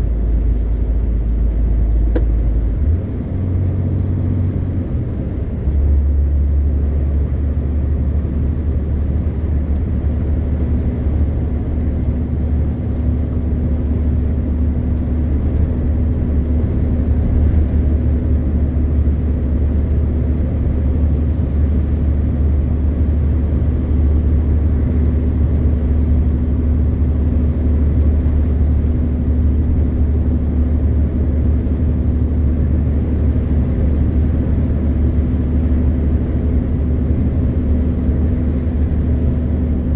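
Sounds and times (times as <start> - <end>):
diesel truck engine droning: 0.0 - 39.9
road noise: 0.0 - 39.9.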